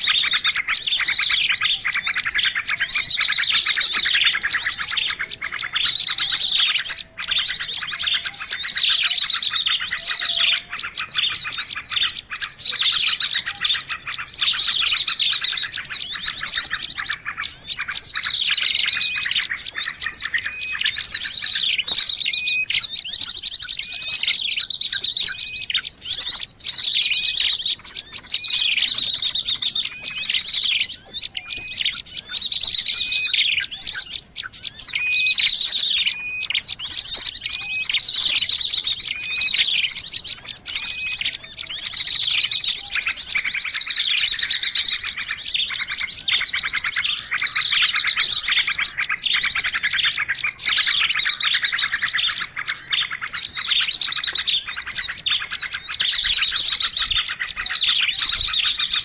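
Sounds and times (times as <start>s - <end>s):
chorus of songbirds chirping: 0.0s - 59.0s.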